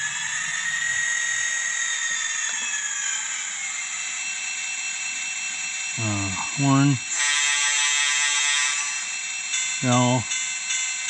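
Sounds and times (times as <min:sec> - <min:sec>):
model locomotive diesel engine sound: 0:00.0 - 0:11.0.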